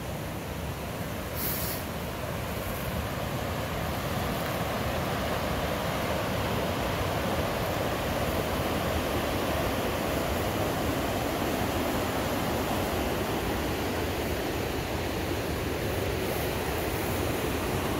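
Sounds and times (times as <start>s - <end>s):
river rapids rushing: 0.0s - 17.9s.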